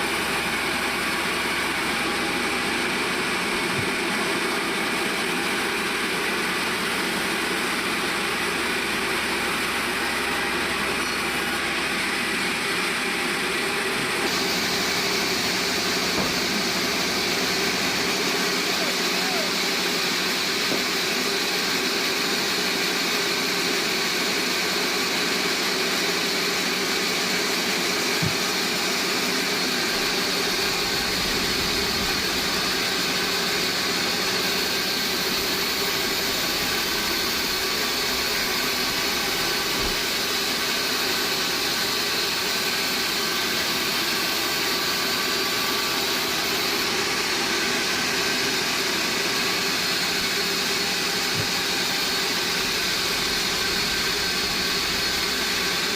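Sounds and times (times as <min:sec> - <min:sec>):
band saw cutting log: 0:00.0 - 0:55.9.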